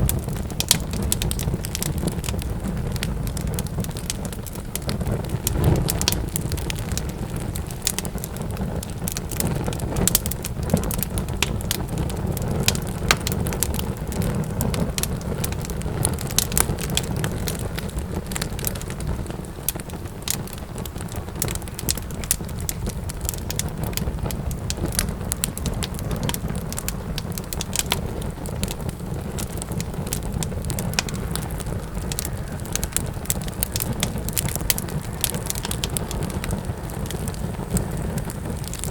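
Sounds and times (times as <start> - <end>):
sharp pops and snaps: 0.0 - 38.9
wood fire crackling: 0.0 - 38.9.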